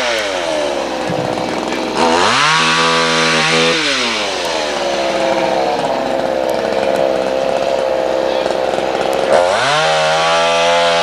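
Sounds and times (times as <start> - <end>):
chainsaw running: 0.0 - 11.0.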